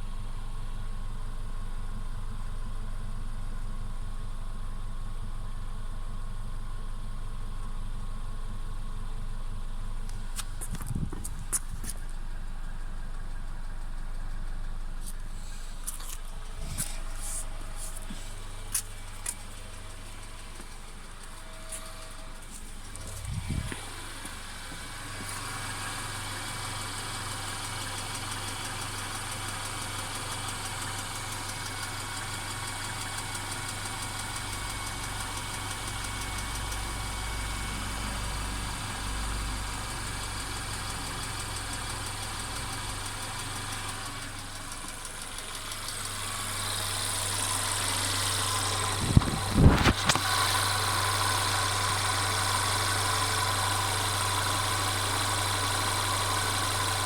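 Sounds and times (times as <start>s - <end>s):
car engine running with rattle: 0.0s - 57.0s.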